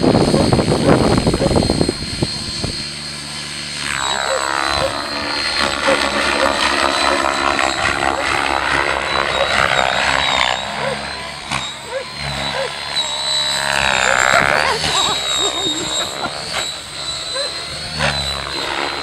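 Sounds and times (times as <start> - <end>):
model helicopter rotor whine: 0.0 - 19.0.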